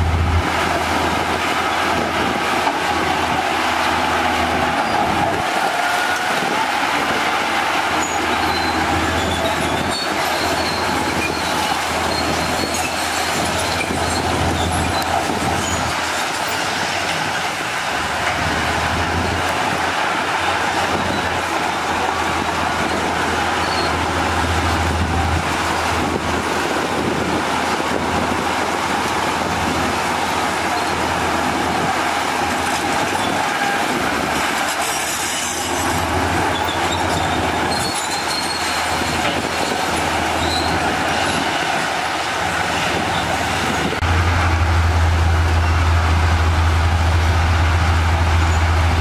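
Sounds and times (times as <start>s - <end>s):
heavy diesel machinery droning: 0.0s - 49.0s.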